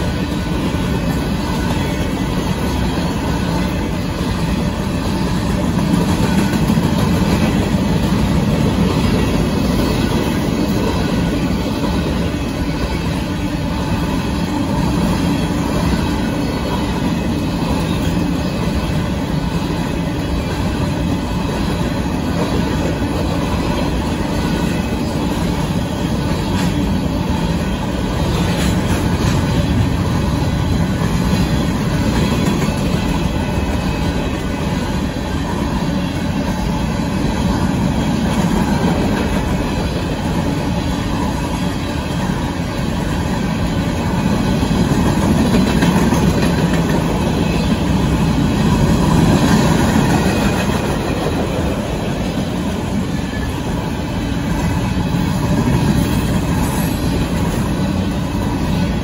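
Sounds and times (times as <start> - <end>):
steel wheels rolling on rail: 0.0 - 59.0.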